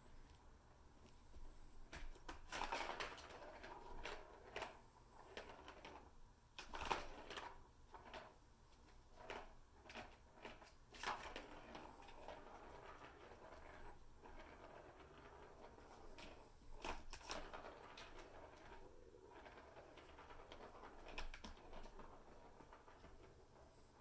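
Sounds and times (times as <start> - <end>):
plastic balls rattling in track: 1.9 - 23.8.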